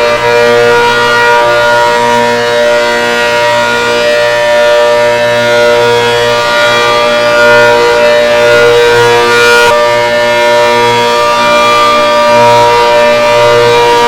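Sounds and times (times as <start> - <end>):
civil defense siren: 0.0 - 14.0.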